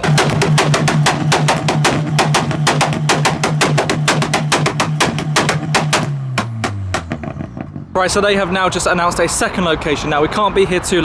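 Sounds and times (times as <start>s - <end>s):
car engine on rev limiter: 0.0s - 9.0s
rapid exhaust bangs: 0.0s - 11.0s.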